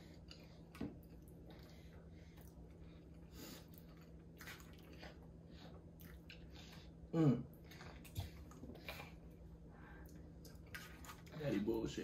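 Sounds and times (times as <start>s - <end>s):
person chewing: 0.0s - 11.3s
steady low hum: 0.0s - 12.0s.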